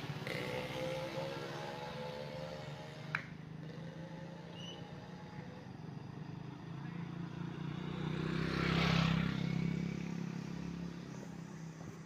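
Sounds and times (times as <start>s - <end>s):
motor vehicle passing: 0.0s - 12.0s.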